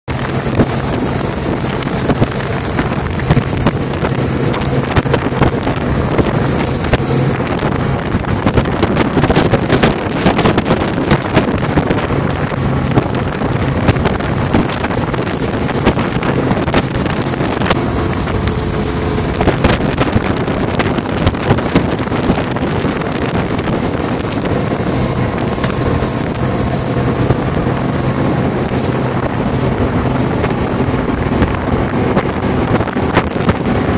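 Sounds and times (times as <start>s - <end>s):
boat engine running at speed: 0.0s - 33.9s
wind noise on microphone: 0.0s - 33.9s.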